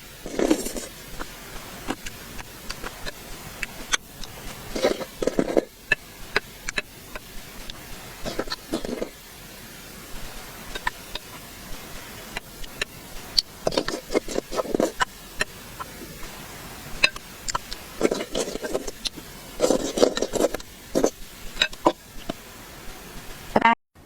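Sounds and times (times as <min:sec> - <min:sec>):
chewing and wet mouth noises: 0:00.2 - 0:09.3, 0:10.1 - 0:16.3, 0:16.9 - 0:22.4.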